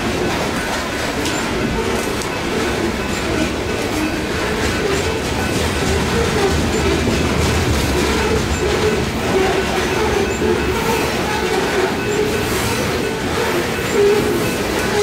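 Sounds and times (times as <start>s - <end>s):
steel wheels rumbling on rail: 0.0s - 15.0s
wheels squealing: 0.0s - 15.0s.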